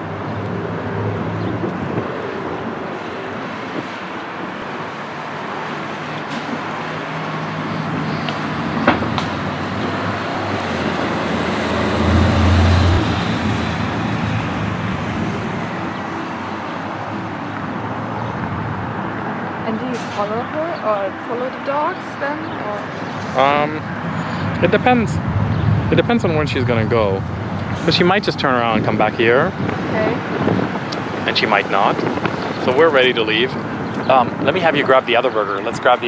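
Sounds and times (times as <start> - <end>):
street traffic: 0.0 - 36.0
vehicle passing: 0.0 - 36.0.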